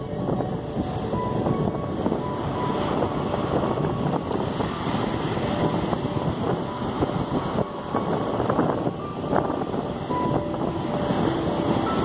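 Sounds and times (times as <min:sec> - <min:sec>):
waves breaking on sand: 0:00.0 - 0:12.0
wind buffeting the microphone: 0:00.0 - 0:12.0.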